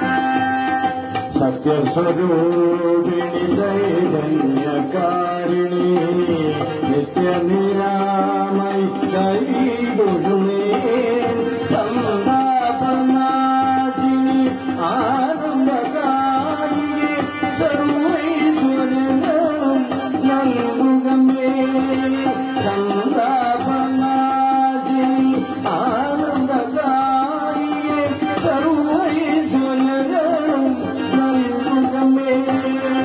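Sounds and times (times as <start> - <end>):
held accompanying tones: 0.0 - 33.0
light percussion: 0.0 - 33.0
man singing devotional song: 0.0 - 33.0.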